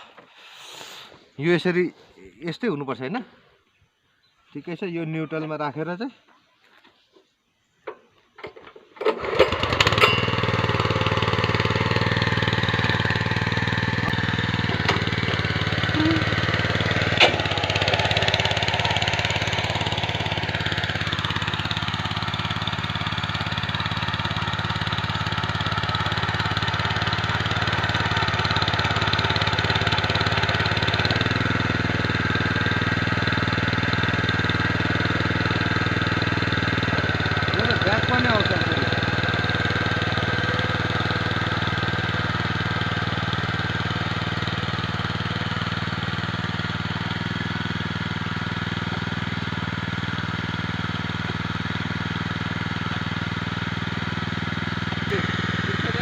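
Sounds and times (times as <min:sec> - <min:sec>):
petrol engine idling: 0:09.1 - 0:56.0.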